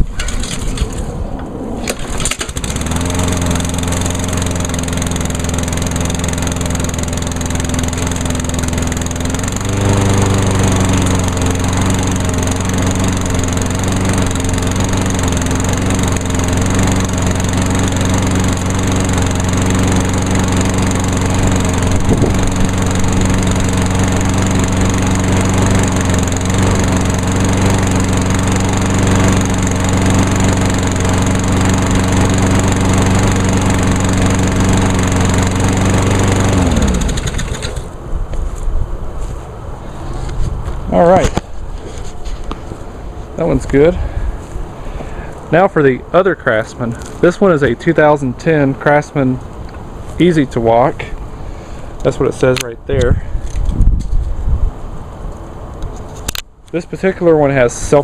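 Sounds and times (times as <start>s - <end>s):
lawn mower engine running: 0.0s - 53.8s.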